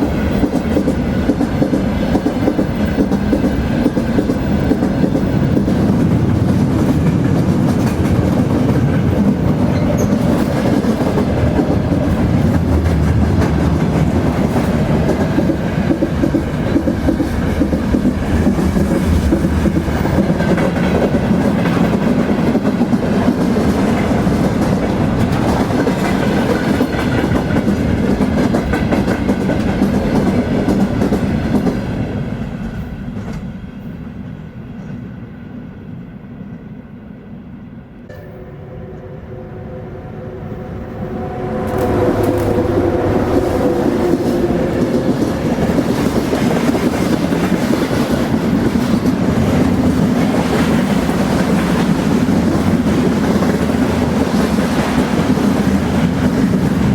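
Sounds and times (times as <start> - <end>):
wheels rattling on rails: 0.0 - 32.0, 41.2 - 56.9
train rumbling on track: 0.0 - 56.9.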